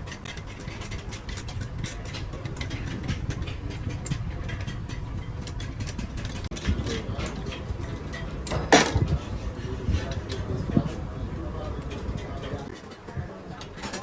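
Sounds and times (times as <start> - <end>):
steady low rumble: 0.0 - 12.7
rapid irregular mechanical clicks: 0.0 - 14.0.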